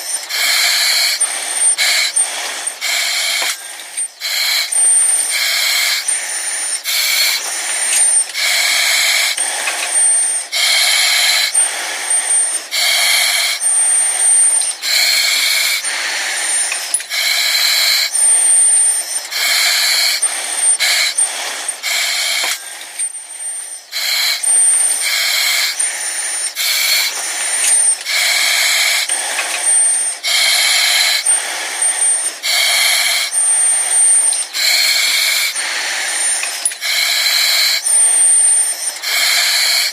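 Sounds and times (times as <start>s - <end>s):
breathing through oxygen mask: 0.0s - 39.9s.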